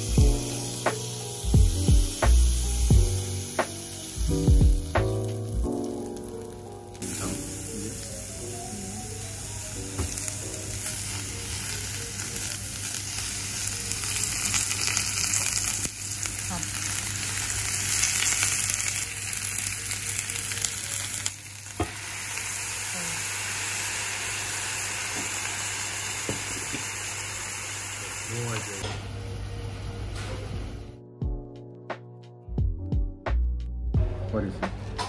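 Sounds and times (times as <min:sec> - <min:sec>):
vegetables sizzling in a pan: 0:00.0 - 0:29.4.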